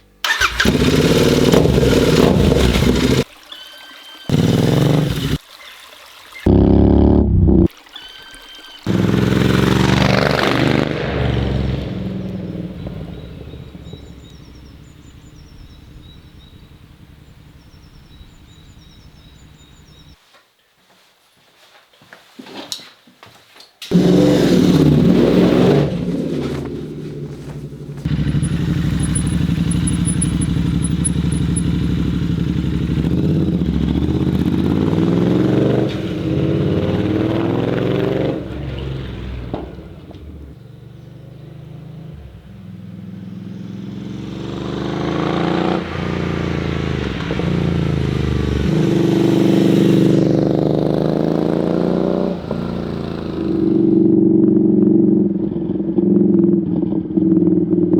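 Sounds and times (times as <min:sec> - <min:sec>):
motorcycle engine accelerating: 0:00.0 - 0:03.3, 0:04.3 - 0:05.4, 0:06.5 - 0:07.7, 0:08.9 - 0:20.2, 0:23.9 - 0:57.9.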